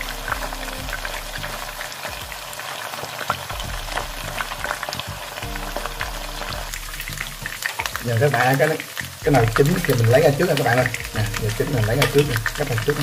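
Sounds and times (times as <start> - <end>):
oil sizzling with pops: 0.0 - 13.0.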